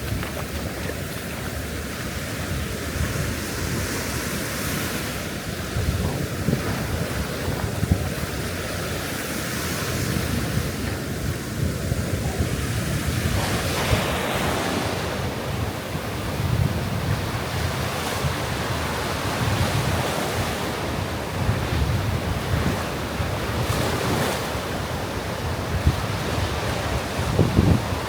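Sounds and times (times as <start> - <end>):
sea waves breaking on beach: 0.0 - 28.0
wind buffeting microphone: 0.0 - 28.0.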